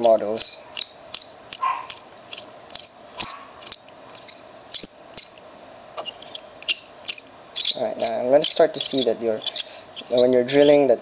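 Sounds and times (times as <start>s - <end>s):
drill bit squeaking in plastic: 0.0s - 5.4s, 6.0s - 10.8s.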